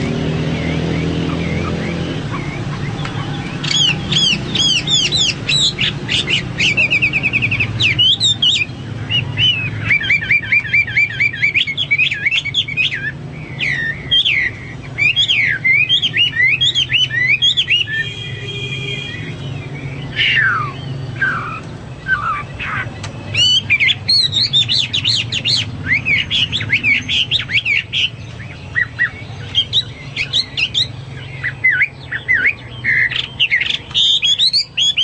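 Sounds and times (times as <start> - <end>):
bird singing whistles and trills: 0.0 - 35.0.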